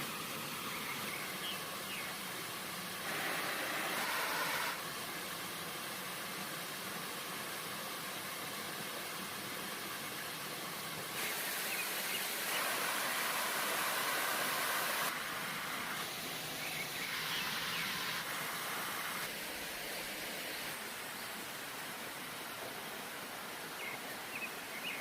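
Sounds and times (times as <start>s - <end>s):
stream water rushing: 0.0s - 25.0s
waterfall: 0.0s - 25.0s.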